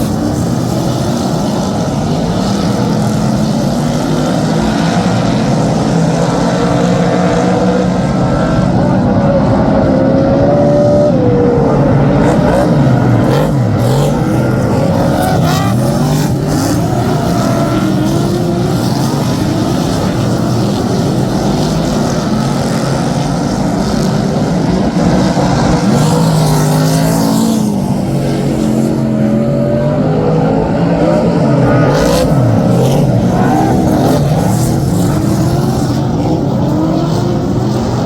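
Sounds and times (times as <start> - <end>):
race car engines: 0.0 - 38.0.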